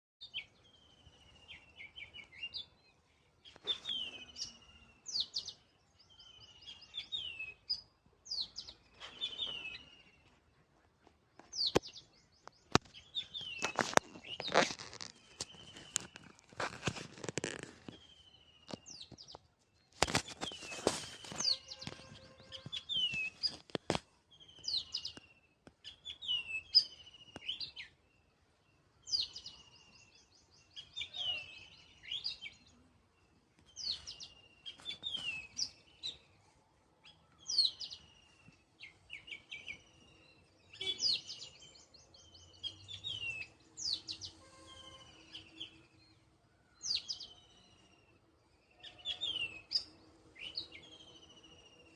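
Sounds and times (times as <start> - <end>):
songbird singing: 0.2 - 51.9.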